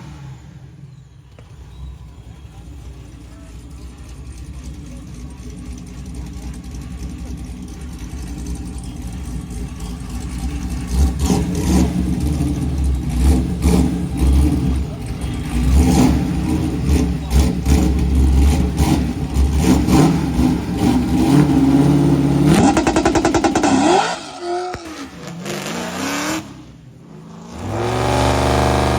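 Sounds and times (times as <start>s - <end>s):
racing car engine revving: 5.4s - 28.9s.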